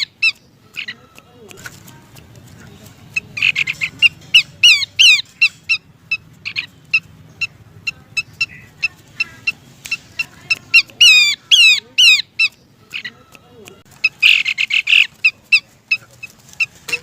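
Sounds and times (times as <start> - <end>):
babbler calling sharp notes: 0.0 - 1.3, 3.1 - 17.0.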